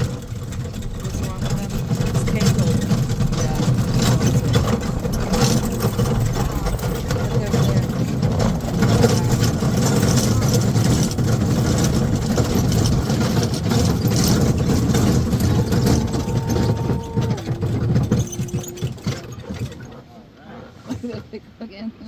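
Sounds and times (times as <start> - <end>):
wind buffeting microphone: 0.0 - 20.0
dog sled rumbling: 0.0 - 22.0.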